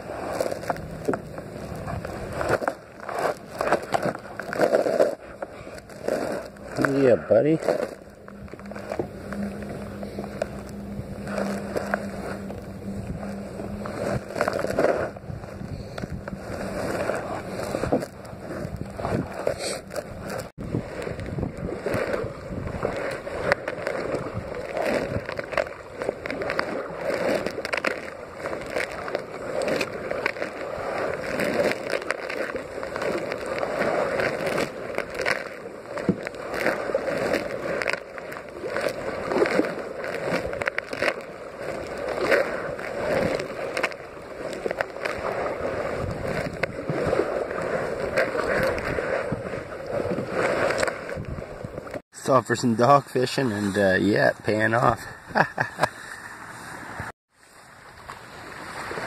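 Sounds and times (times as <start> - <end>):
wind on microphone: 0.0 - 52.0
paddle splashing in water: 0.0 - 59.0.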